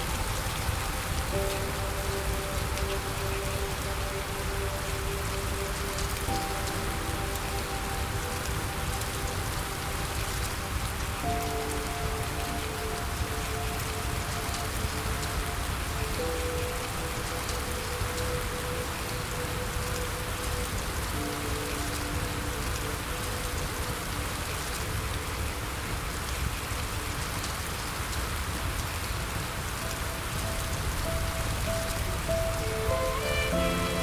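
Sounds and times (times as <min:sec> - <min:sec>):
soft held music notes: 0:00.0 - 0:34.0
steady rain hiss: 0:00.0 - 0:34.0.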